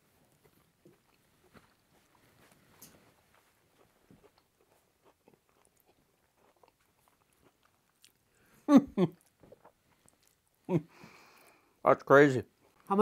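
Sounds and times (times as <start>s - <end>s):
people chewing: 0.0s - 11.8s.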